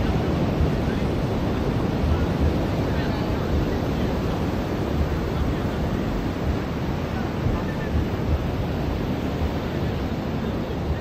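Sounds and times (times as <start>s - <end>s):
faint indistinct voices: 0.0s - 11.0s
waves breaking on beach: 0.0s - 11.0s
wind buffeting microphone: 0.0s - 11.0s.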